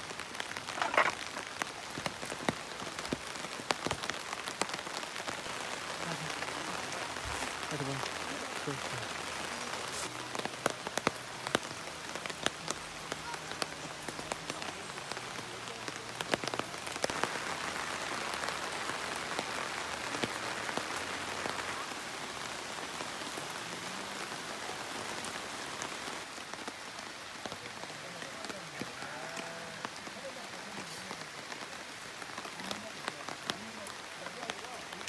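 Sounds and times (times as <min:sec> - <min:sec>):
heavy rain hissing: 0:00.0 - 0:35.0
raindrops tapping: 0:00.0 - 0:35.0.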